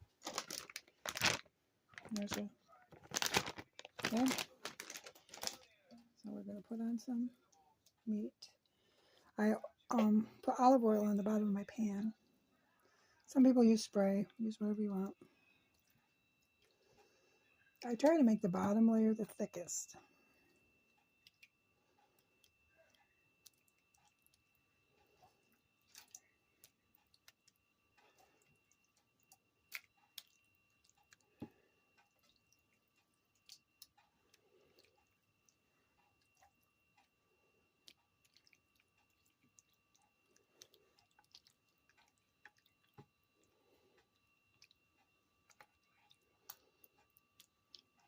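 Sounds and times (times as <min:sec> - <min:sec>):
faint electrical hum: 0:00.0 - 0:48.0.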